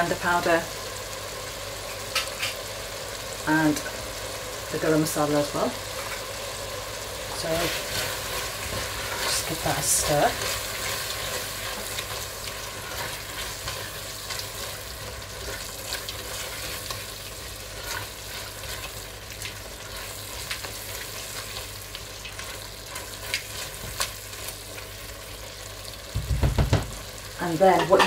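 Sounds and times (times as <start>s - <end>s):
masala sizzling in a pot: 0.0s - 28.0s.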